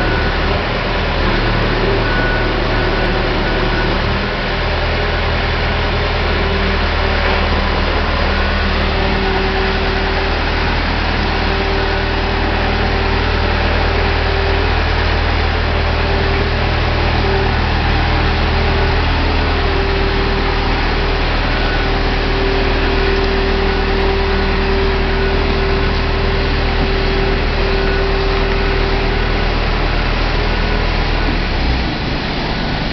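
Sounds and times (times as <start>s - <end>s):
hoist engine drone with whine: 0.0s - 32.9s.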